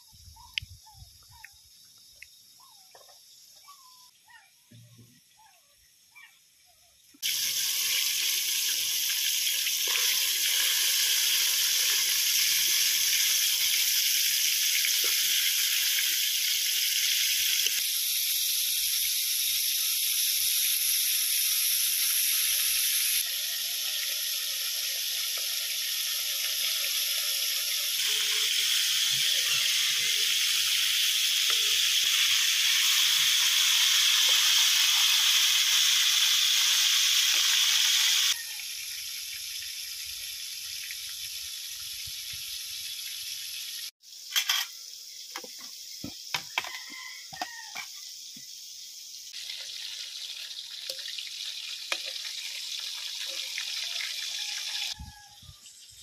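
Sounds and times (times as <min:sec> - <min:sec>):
chicken deep-frying in hot oil: 0:07.1 - 0:56.0.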